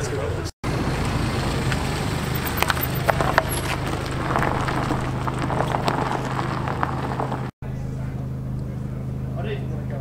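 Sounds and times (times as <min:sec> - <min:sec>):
car engines running at low revs: 0:00.0 - 0:10.0.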